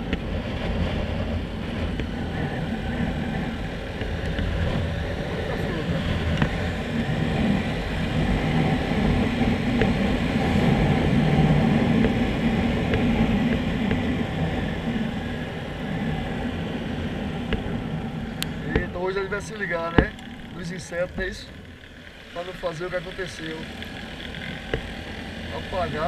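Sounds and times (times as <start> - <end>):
motorcycle engine running: 0.0 - 26.0
road noise: 0.0 - 26.0
wind rushing over microphone: 0.0 - 26.0.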